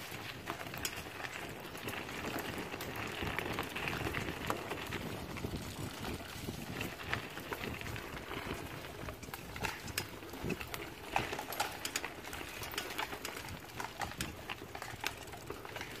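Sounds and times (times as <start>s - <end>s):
bicycle tyre rumble on dirt: 0.0s - 16.0s
bike clicks and rattles: 0.0s - 16.0s.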